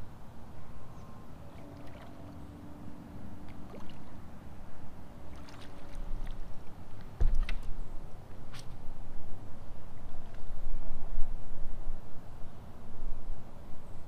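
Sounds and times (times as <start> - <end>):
wind and water against boat: 0.0 - 14.0.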